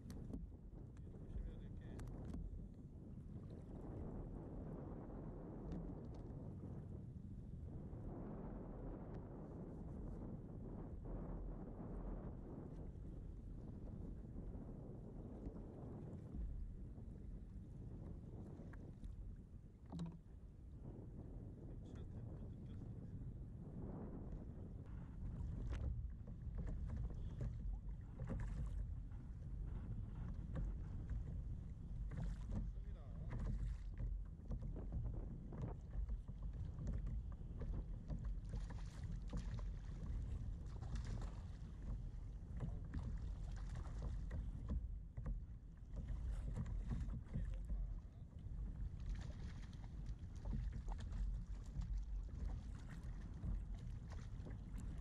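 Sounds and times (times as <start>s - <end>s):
water slapping against hull: 0.0s - 6.9s, 8.8s - 55.0s
wind rumbling on microphone: 0.0s - 55.0s.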